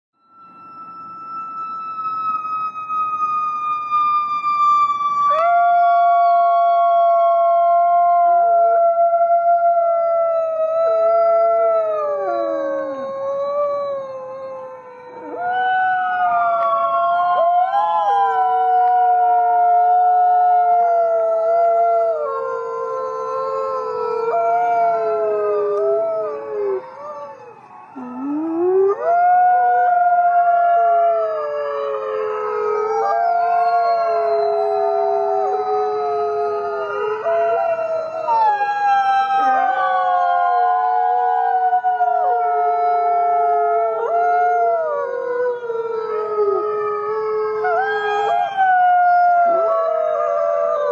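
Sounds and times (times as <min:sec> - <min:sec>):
dogs howling in chorus: 0:05.2 - 0:50.9.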